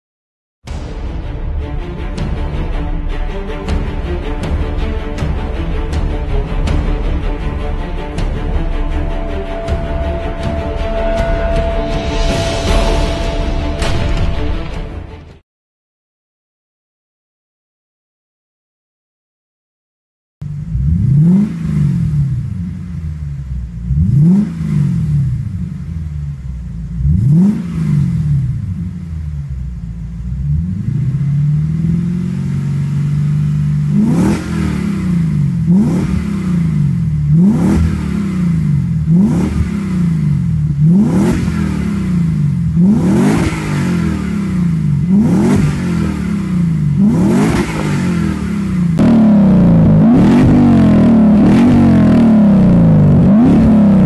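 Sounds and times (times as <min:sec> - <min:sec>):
car engine revving: 0:03.6 - 0:15.2, 0:20.4 - 0:54.0.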